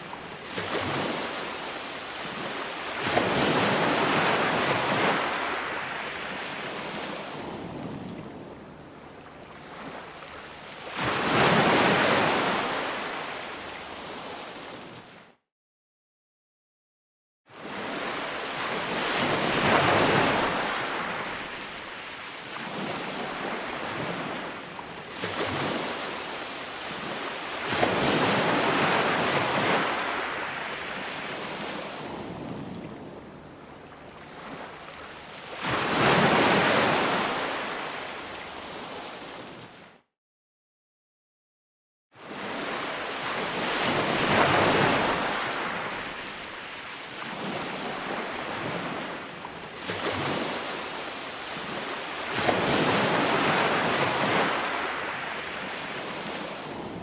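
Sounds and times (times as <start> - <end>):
ocean waves breaking: 0.0 - 15.2, 17.6 - 39.9, 42.2 - 57.0.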